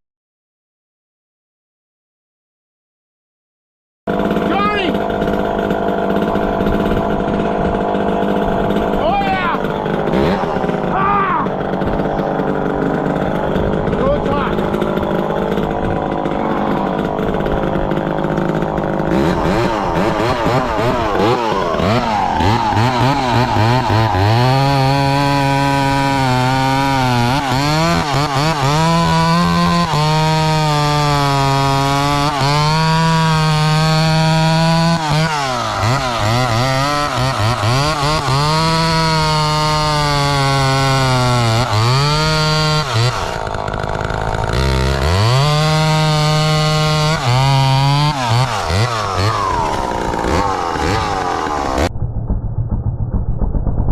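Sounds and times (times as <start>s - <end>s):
chainsaw cutting wood: 4.1s - 51.9s.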